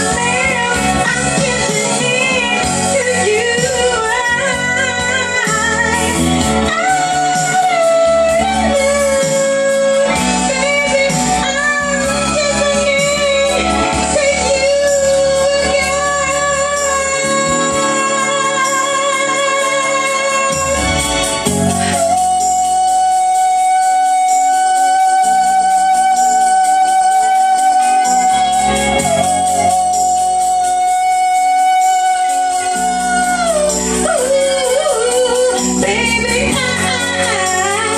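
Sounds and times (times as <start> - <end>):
backing music: 0.0 - 37.9
woman singing: 0.0 - 37.9.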